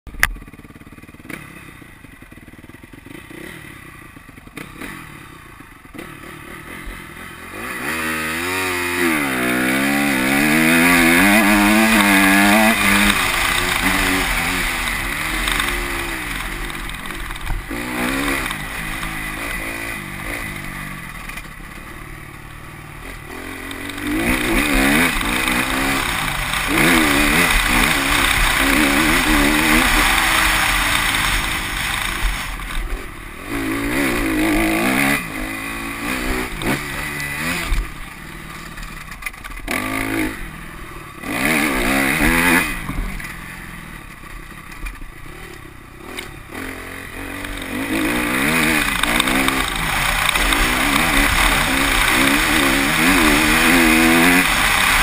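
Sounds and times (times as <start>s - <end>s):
motorbike engine revving: 0.4s - 55.0s.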